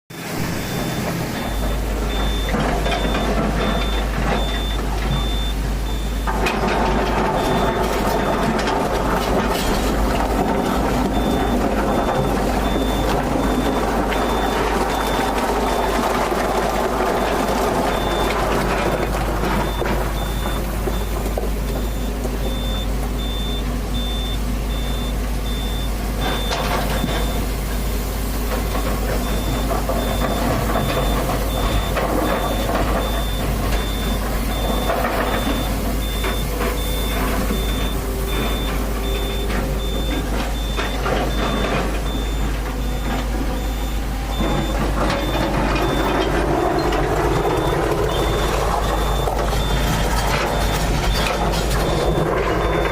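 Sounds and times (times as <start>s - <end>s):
excavator diesel engine: 0.1s - 52.9s
warning alarm beeping: 0.3s - 27.5s, 28.5s - 52.9s.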